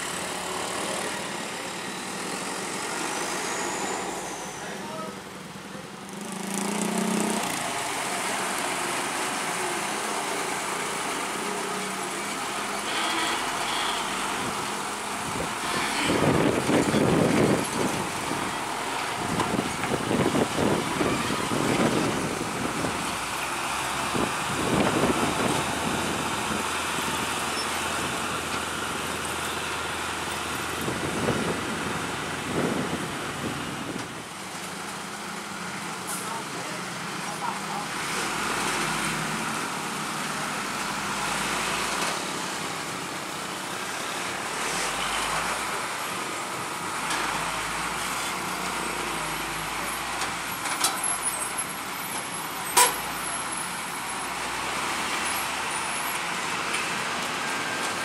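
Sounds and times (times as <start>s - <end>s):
diesel truck engines: 0.0s - 58.0s
dump truck over rails: 0.0s - 58.0s.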